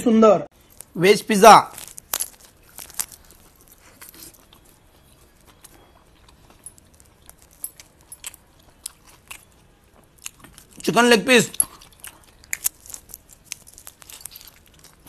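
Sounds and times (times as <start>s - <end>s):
man chewing: 1.8s - 10.9s, 11.5s - 15.0s.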